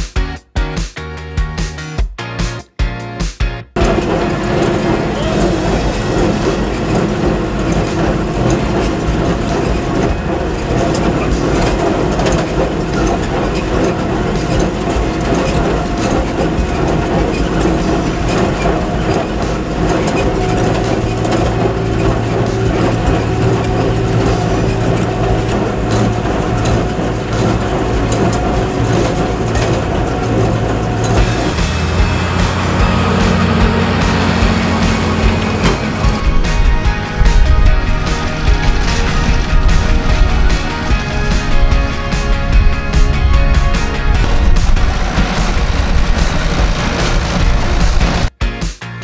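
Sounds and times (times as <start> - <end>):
baler mechanical clatter: 3.8 - 48.3
tractor engine under load: 3.8 - 48.4.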